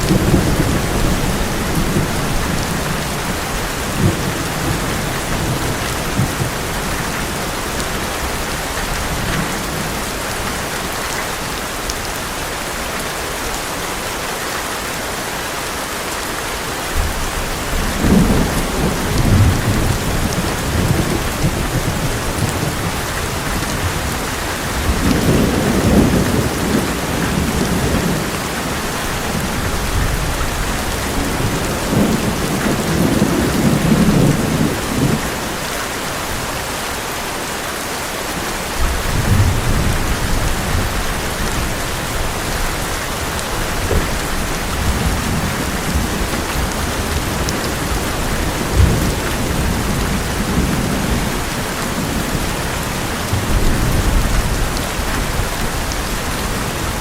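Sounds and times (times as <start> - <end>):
thunder rumbling: 0.0 - 10.7, 17.0 - 35.6, 38.8 - 57.0
heavy rain on a metal roof: 0.0 - 57.0.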